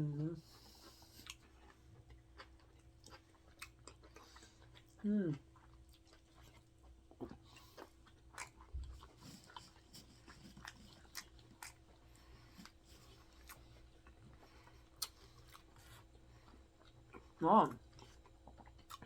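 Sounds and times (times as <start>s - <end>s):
chewing mouth clicks and smacks: 0.8s - 5.0s, 5.6s - 17.3s, 17.9s - 19.0s.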